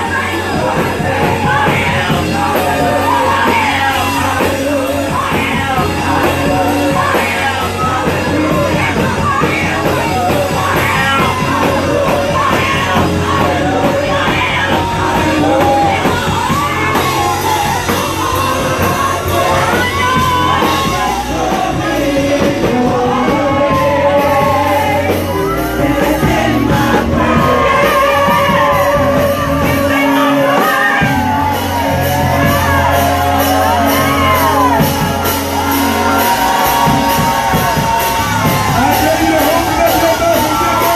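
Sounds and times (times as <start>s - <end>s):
gospel choir and band: 0.0s - 40.9s
people shouting: 0.0s - 40.9s.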